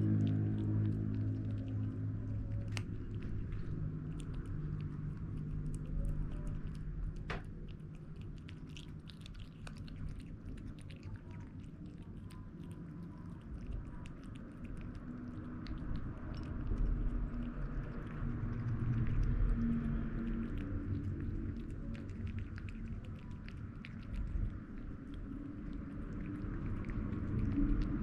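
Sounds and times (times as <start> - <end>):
kitten chewing and lapping food: 0.0 - 28.0
low steady drawn-out sound: 0.0 - 28.0.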